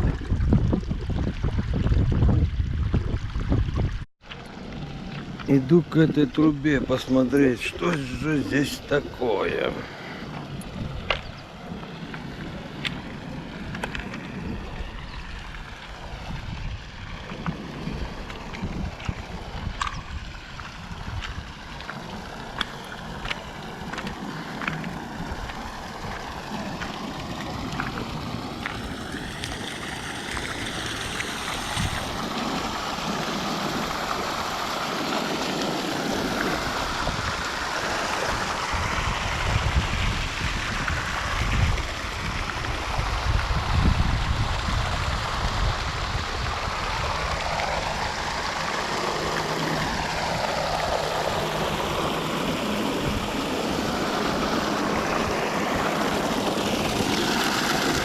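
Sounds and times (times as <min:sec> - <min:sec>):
running water rushing: 0:00.0 - 0:58.0
wind rumble on microphone: 0:00.0 - 0:58.0.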